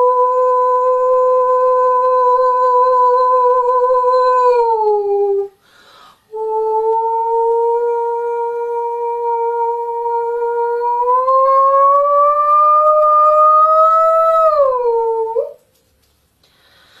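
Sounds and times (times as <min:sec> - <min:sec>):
woman singing long wordless note: 0:00.0 - 0:05.6, 0:06.3 - 0:15.5.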